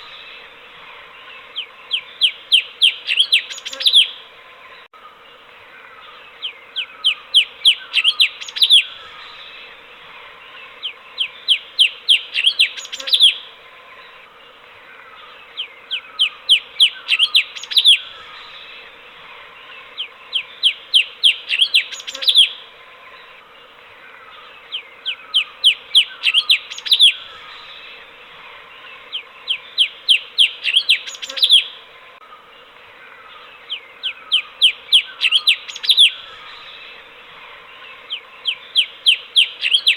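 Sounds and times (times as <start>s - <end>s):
background hiss: 0.0s - 39.9s
bulbul chirping song: 1.2s - 4.3s, 5.7s - 23.4s, 24.2s - 28.2s, 28.8s - 39.9s.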